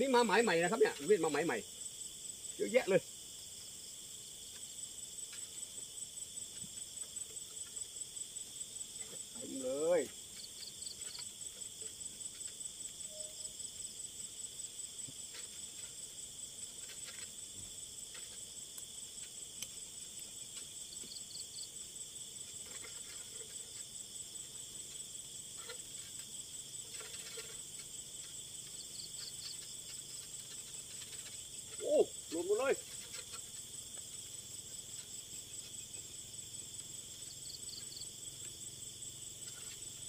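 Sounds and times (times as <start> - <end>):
insects chirring: 0.0 - 40.0
trilled insect calls: 0.0 - 40.0.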